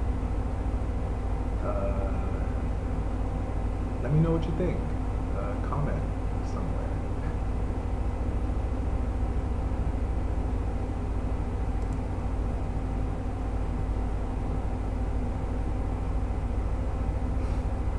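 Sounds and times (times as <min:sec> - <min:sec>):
constant hum: 0:00.0 - 0:17.9.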